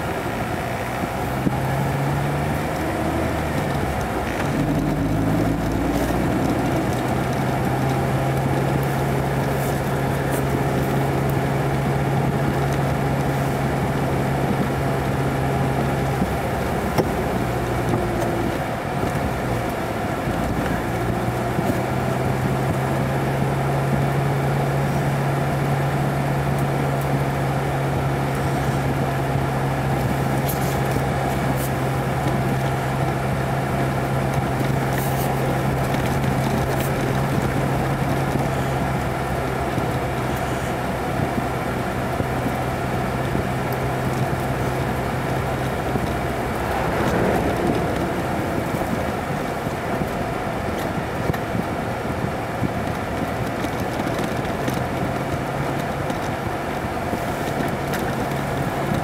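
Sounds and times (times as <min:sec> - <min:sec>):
car engine hum: 0:00.0 - 0:59.0
tyre road noise on snow: 0:00.0 - 0:59.0.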